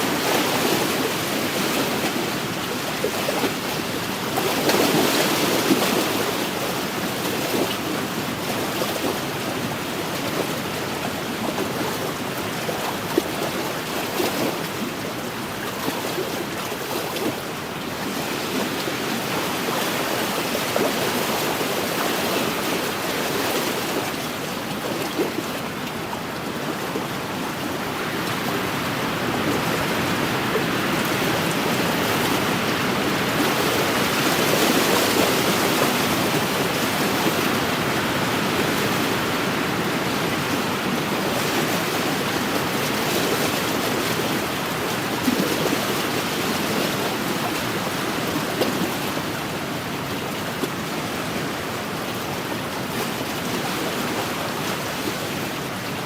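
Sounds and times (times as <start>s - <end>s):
waves lapping against shore: 0.0s - 56.0s
wind: 0.0s - 56.0s.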